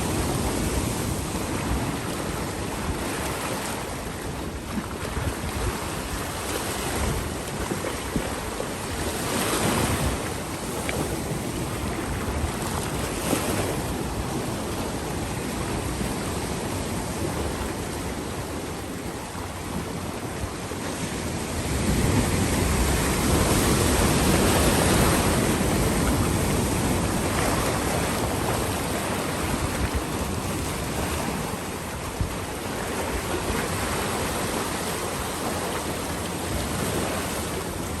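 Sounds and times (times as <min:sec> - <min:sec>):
ocean surf on rocky shore: 0:00.0 - 0:38.0
wind on microphone: 0:00.0 - 0:38.0.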